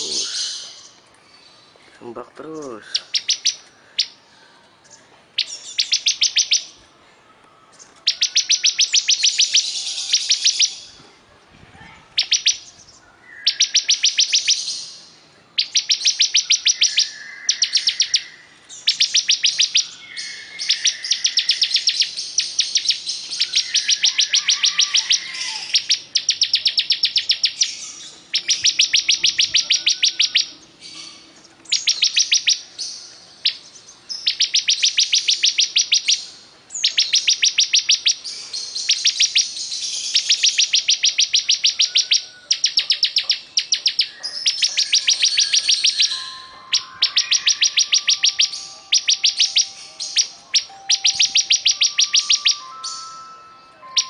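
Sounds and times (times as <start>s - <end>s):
bird chattering trills: 0.0s - 1.0s, 2.1s - 4.2s, 5.4s - 6.8s, 8.0s - 11.0s, 12.1s - 54.0s.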